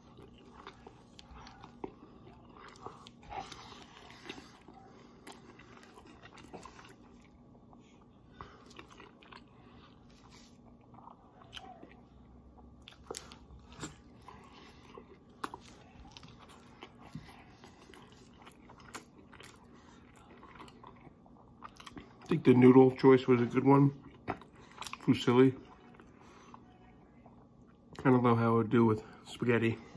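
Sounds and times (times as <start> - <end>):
quiet chewing: 0.0 - 22.5, 23.6 - 28.2.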